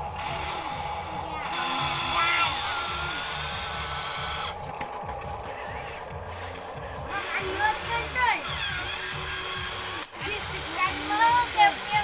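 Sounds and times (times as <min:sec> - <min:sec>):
electric motors and gears whirring: 0:00.0 - 0:12.0.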